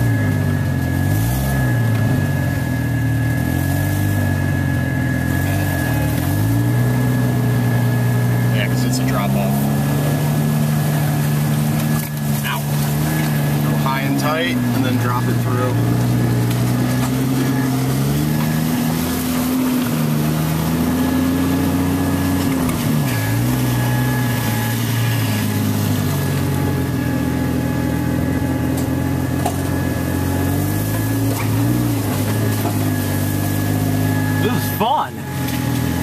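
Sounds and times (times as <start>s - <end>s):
engine running heard from inside: 0.0s - 36.0s.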